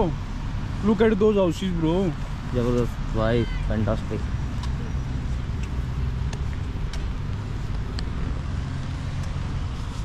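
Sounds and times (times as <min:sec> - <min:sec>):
distant road traffic rumble: 0:00.0 - 0:10.0.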